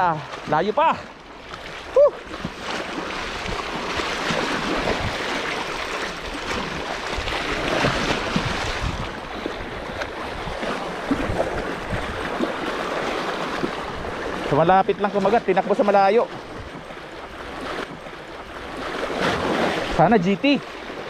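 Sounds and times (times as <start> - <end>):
sea water lapping at shore: 0.0 - 21.0.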